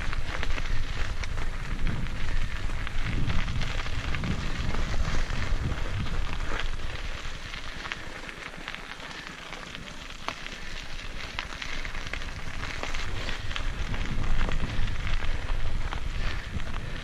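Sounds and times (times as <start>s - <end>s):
wind rumble on microphone: 0.0s - 8.3s, 10.1s - 17.0s
bike tyres crunching on gravel: 0.0s - 17.0s.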